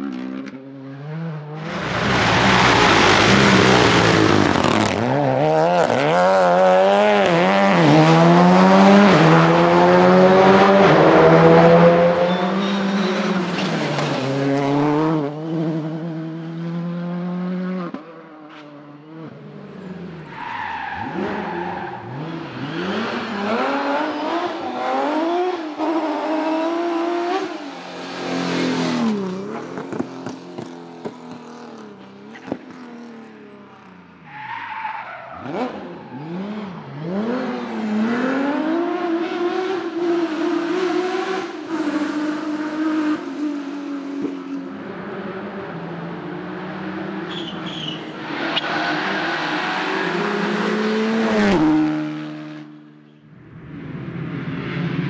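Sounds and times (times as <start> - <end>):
rally car engines revving past: 0.0 - 55.0.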